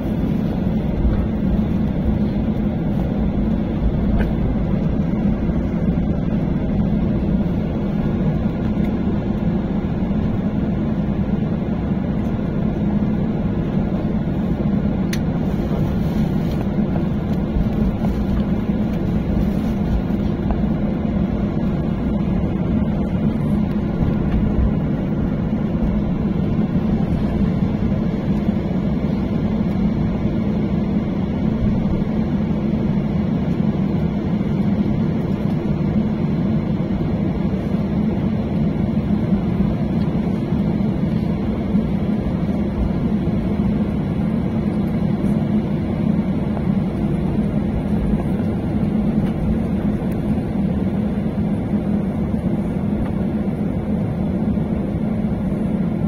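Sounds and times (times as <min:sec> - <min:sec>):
airliner engine drone in cabin: 0:00.0 - 0:56.0.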